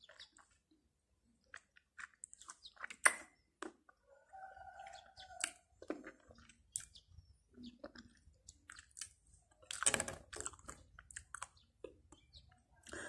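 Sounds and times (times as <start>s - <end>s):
wet chewing and lip smacks: 1.4s - 4.0s, 4.8s - 13.0s.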